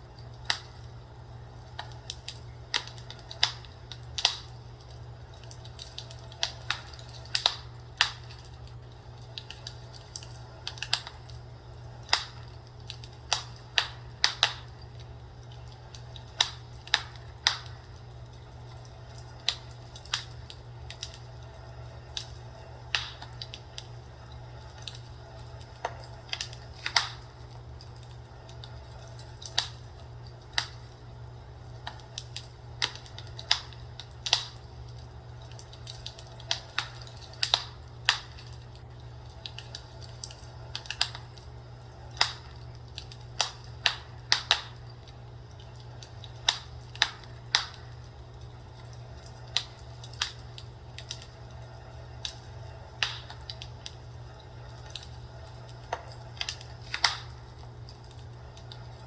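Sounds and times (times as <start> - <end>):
fireplace crackling: 0.0 - 59.0
steady low hum: 0.0 - 59.0.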